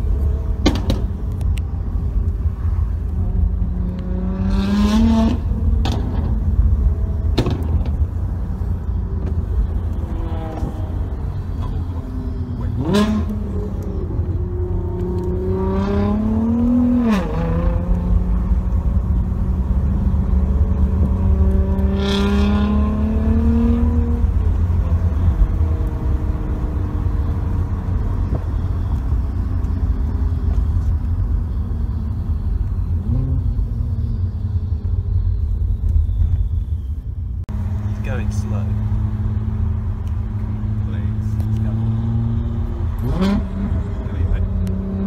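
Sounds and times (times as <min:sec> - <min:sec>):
low road rumble: 0:00.0 - 0:45.0
sports car engine accelerating: 0:03.1 - 0:08.2, 0:08.9 - 0:34.8, 0:37.5 - 0:45.0.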